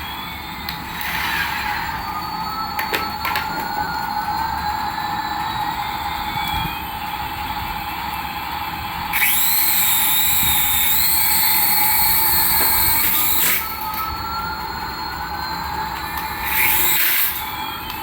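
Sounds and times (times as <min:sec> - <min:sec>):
toy electric whine: 0:00.0 - 0:18.0.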